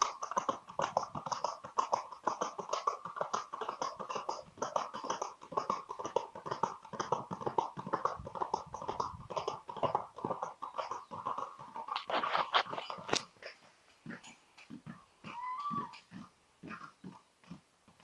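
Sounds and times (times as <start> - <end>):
horse hooves striking ground: 0.0 - 18.0.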